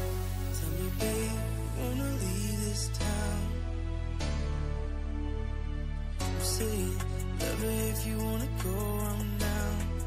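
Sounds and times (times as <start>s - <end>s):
background music with chords and bass: 0.0s - 10.0s.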